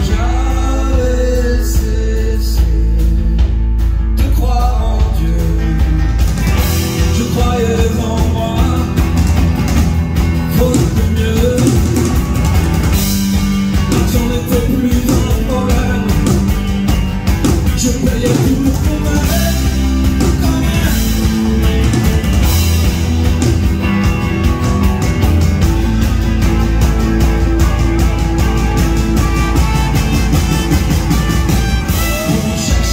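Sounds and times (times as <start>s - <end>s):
drum kit with cymbals: 0.0s - 32.9s
electric guitar: 0.0s - 32.9s
strummed acoustic guitar: 0.0s - 32.9s.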